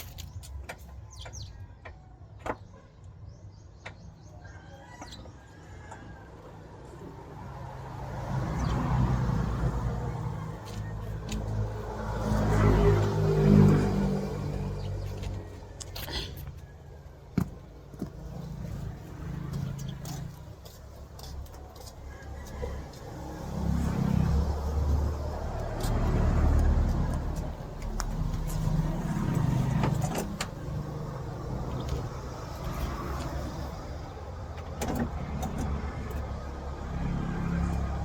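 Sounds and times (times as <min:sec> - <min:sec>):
vehicle engine rumble: 0:05.8 - 0:38.0.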